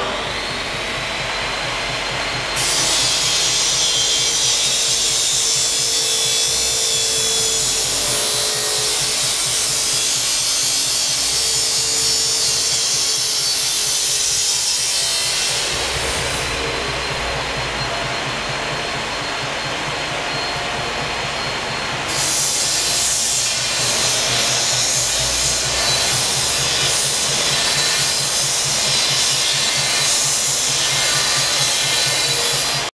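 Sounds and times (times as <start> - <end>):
workshop machine running: 0.0 - 32.9.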